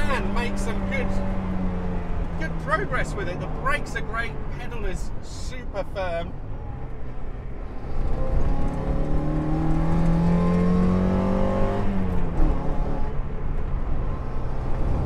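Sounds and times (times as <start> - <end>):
car engine accelerating: 0.0 - 4.6, 6.5 - 15.0.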